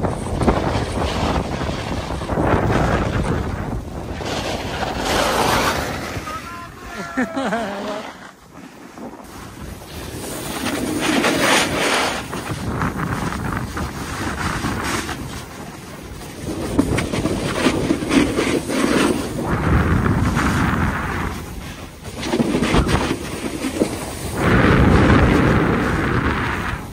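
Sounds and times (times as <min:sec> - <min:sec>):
wind rushing over microphone: 0:00.0 - 0:26.9
skis scraping packed snow: 0:00.1 - 0:26.9.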